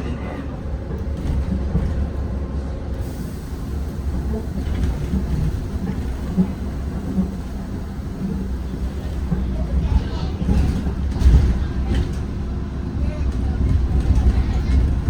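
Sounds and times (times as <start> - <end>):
bus interior rumble: 0.0 - 15.0.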